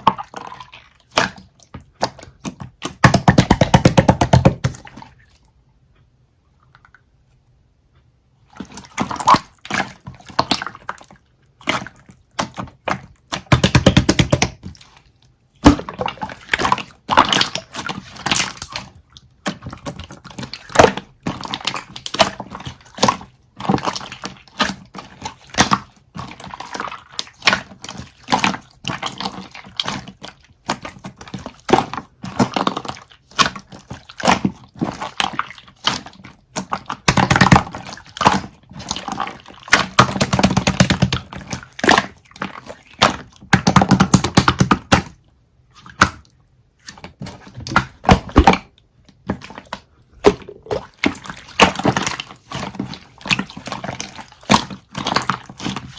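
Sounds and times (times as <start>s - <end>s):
hands squishing slime: 0.0s - 5.5s, 8.4s - 55.9s.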